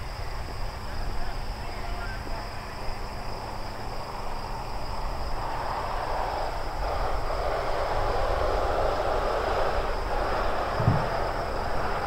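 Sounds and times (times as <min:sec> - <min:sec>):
broad rushing noise: 0:00.0 - 0:12.0
high insect drone: 0:00.0 - 0:12.0.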